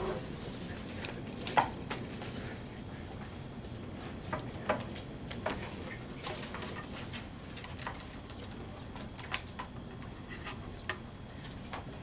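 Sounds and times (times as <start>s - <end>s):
papers being handled: 0.0s - 12.0s
room noise: 0.0s - 12.0s.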